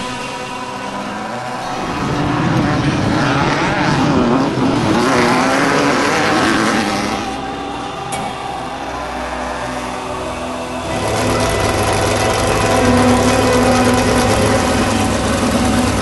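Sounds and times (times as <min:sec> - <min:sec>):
off-road vehicle engine passing: 0:00.5 - 0:16.0.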